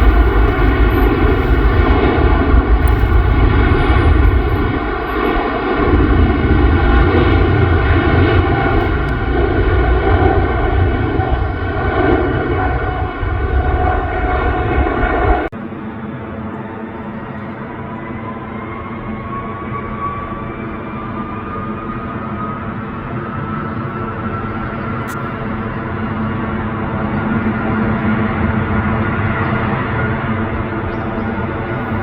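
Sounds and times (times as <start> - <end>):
jet engine roar with whine: 0.0 - 32.0.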